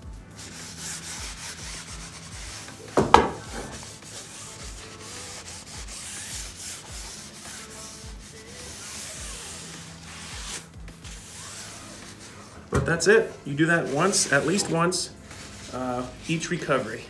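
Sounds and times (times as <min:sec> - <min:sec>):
paper towel rubbing rubber: 0:00.0 - 0:17.0.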